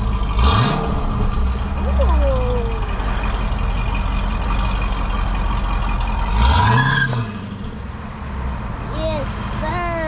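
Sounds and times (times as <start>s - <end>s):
suv engine idling and revving: 0.0s - 10.0s.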